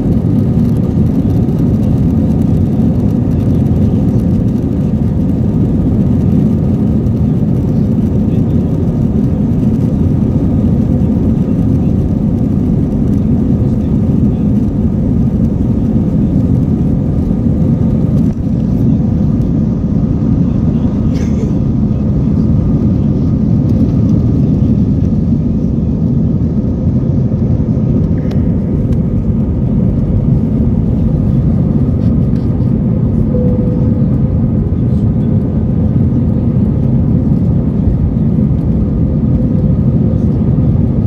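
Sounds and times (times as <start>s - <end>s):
faint steady whine: 0.0s - 41.0s
jet engines low rumble: 0.0s - 41.0s.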